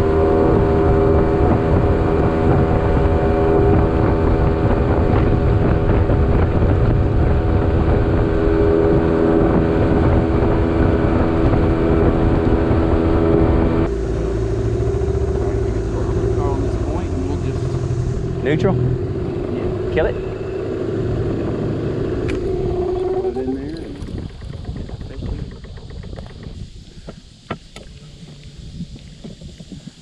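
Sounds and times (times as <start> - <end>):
outboard motor running: 0.0 - 30.0
wind buffeting microphone: 0.0 - 30.0.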